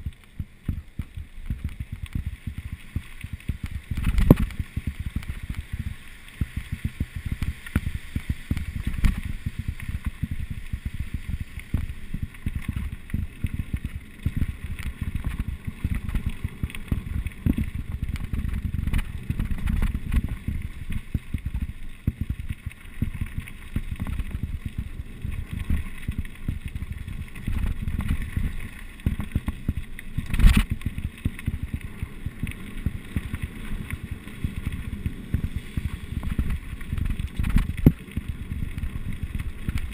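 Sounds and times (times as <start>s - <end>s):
bike rattling over bumps: 0.0s - 39.9s
wind buffeting microphone: 0.0s - 39.9s.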